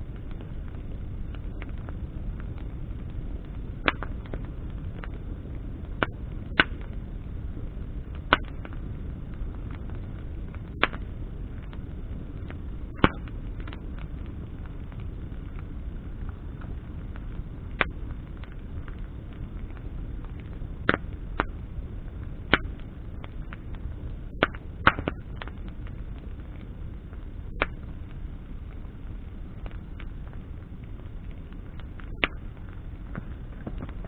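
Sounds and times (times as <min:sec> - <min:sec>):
campfire crackling and popping: 0:00.0 - 0:34.0
fire low rumble: 0:00.0 - 0:34.0.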